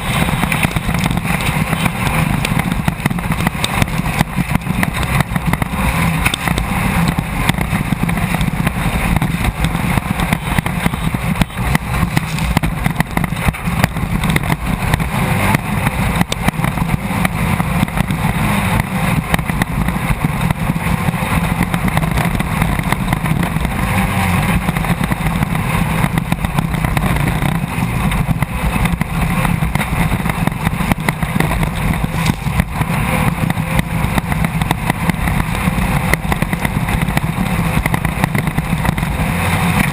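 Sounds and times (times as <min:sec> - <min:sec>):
race car engine under load: 0:00.0 - 0:39.9
rattling and jolting: 0:00.0 - 0:39.9.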